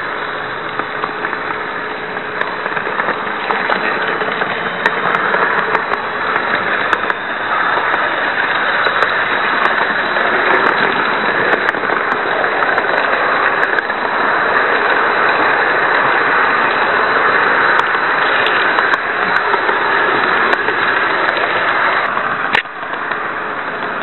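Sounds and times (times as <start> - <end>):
model train wheels rattling: 0.0 - 24.0.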